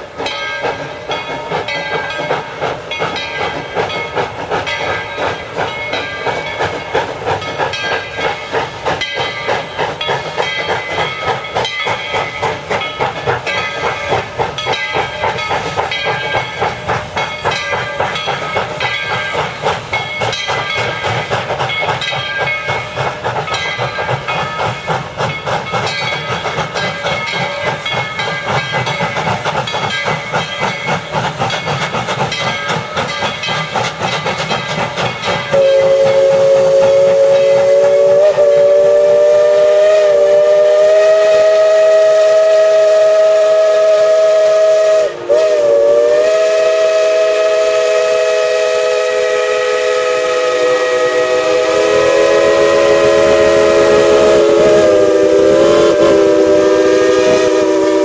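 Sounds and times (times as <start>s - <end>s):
steam hissing: 0.0s - 58.0s
steam locomotive chuffing: 0.0s - 58.0s.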